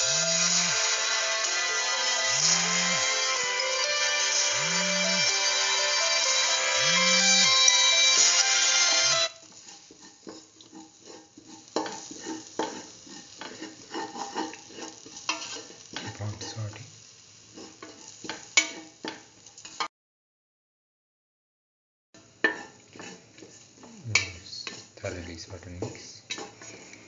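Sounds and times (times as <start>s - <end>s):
spatula scraping metal pan: 0.0s - 16.6s, 17.5s - 19.9s, 22.4s - 25.0s, 25.8s - 27.0s
onions sizzling in oil: 0.0s - 19.9s, 22.2s - 27.0s.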